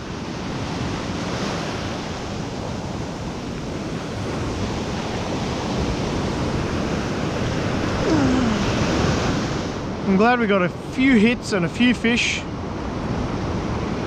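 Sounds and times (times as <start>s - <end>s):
wind rumbling on microphone: 0.0s - 10.9s, 12.5s - 14.0s
ocean surf breaking: 0.0s - 14.0s.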